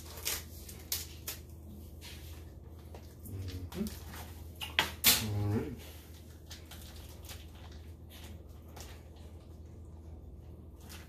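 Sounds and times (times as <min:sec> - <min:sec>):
hands handling food and packaging: 0:00.0 - 0:05.0, 0:05.8 - 0:11.0.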